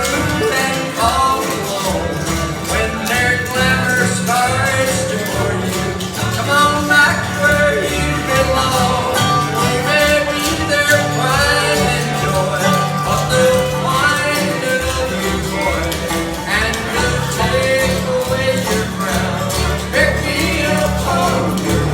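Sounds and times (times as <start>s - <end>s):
bluegrass band with guitar: 0.0s - 21.9s.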